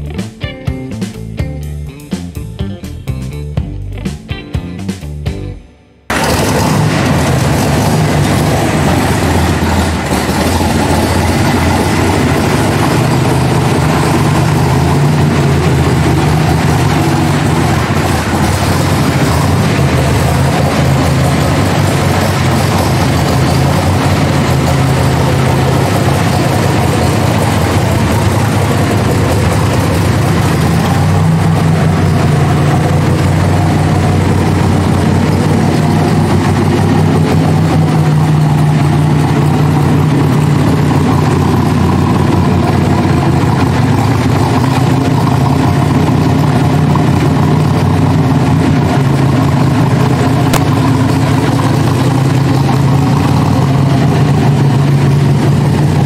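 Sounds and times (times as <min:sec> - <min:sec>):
car engine idling: 0:06.1 - 0:56.0.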